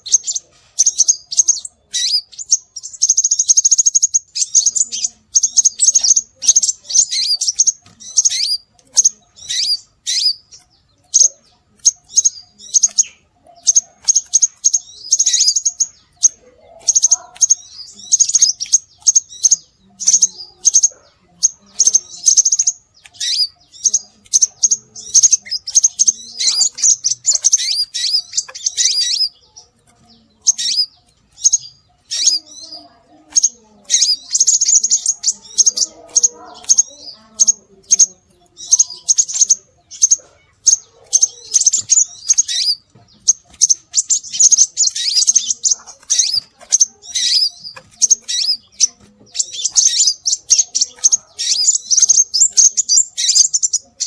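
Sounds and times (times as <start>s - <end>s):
bird chirps and buzzy trills: 0.0s - 54.0s.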